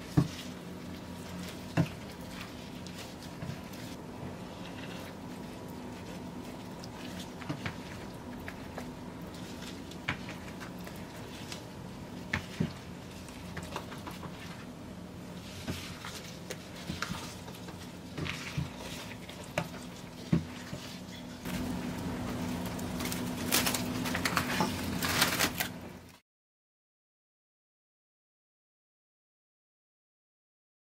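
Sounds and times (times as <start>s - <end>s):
wet dough squishing: 0.0s - 26.1s.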